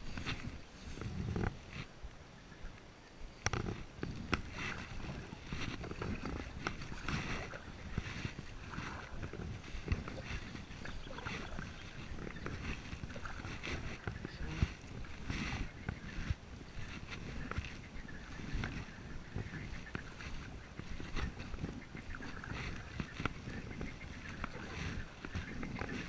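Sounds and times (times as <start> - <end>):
kayak paddle splashing: 3.4 - 26.0.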